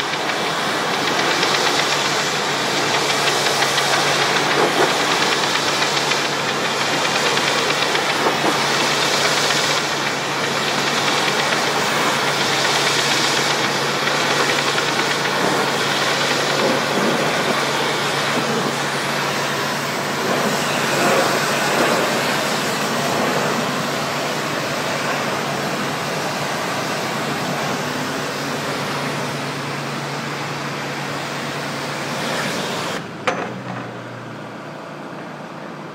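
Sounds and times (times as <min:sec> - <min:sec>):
water spray hissing: 0:00.0 - 0:29.2
pressure washer engine hum: 0:00.0 - 0:35.9.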